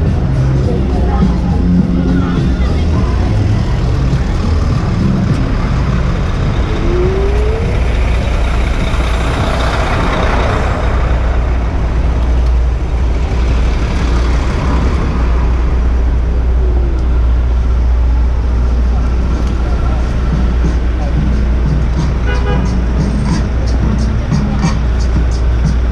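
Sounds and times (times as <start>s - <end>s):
city traffic: 0.0s - 25.9s
passing vehicle: 0.0s - 25.9s.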